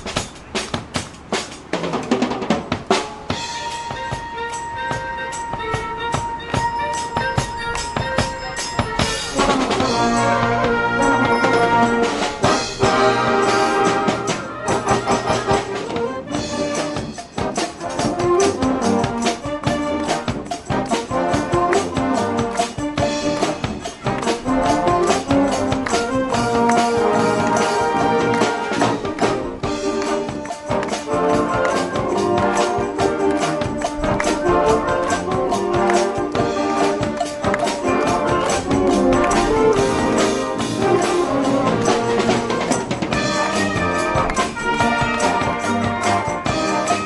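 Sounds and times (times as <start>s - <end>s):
driving percussion beat: 0.0s - 47.0s
brass section playing: 2.9s - 47.0s.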